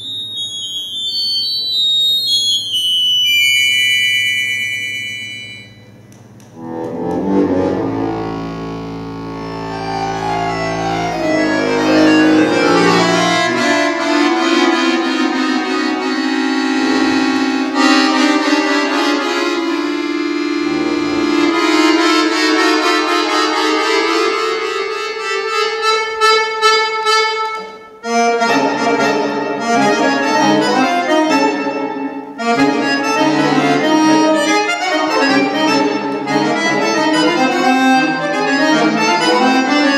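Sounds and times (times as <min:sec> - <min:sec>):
accordion playing chords: 0:00.0 - 0:39.9.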